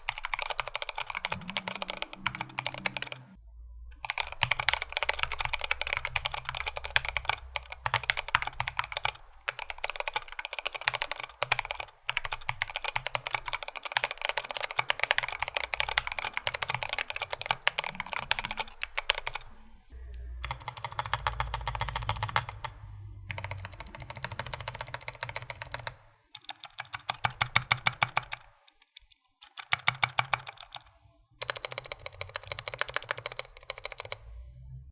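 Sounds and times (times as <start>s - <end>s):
mechanical keyboard typing: 0.0s - 3.4s, 4.0s - 19.6s, 20.4s - 34.2s.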